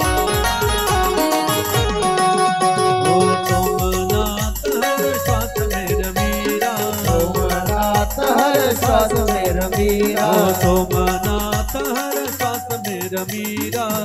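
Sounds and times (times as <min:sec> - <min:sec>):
drum beat: 0:00.0 - 0:02.2, 0:02.9 - 0:14.0
rattling percussion: 0:00.0 - 0:14.0
man singing: 0:02.2 - 0:14.0.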